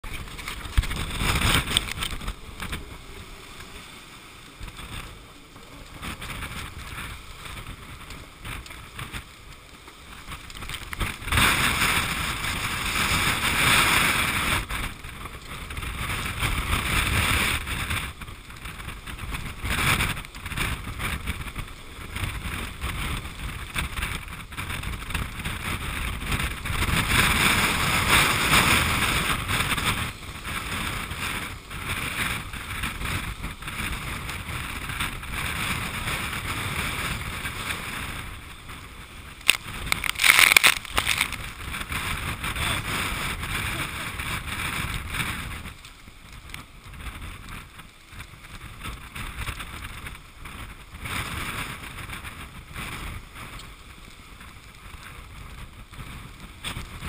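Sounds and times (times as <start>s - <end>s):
sea breaking along boat hull: 0.0s - 45.8s
wind buffeting microphone: 0.0s - 57.0s.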